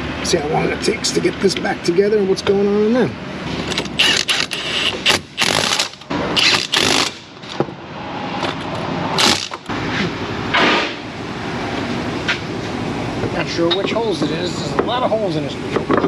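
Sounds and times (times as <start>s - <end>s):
low hum of shop machinery: 0.0s - 16.0s.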